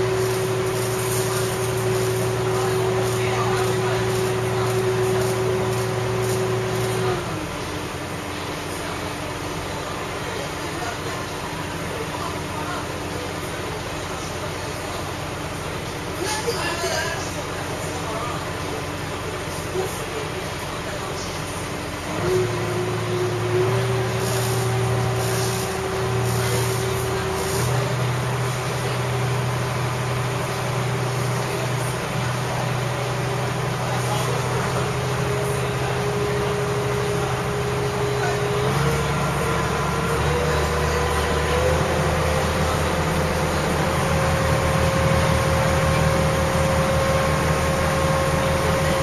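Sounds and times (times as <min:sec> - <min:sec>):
boat engine droning: 0:00.0 - 0:15.0, 0:22.0 - 0:49.0.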